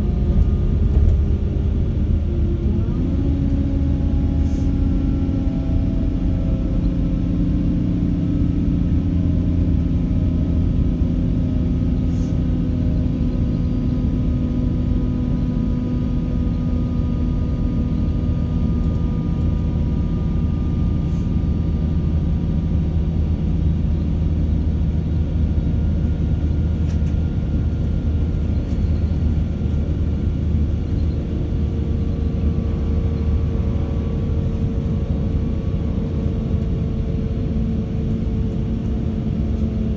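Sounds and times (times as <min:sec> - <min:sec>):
train diesel engine drone: 0:00.0 - 0:39.9.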